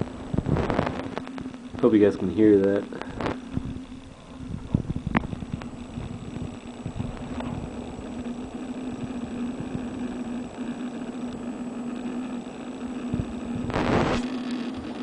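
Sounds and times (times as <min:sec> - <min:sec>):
hard drive humming and clicking: 0:00.0 - 0:15.0.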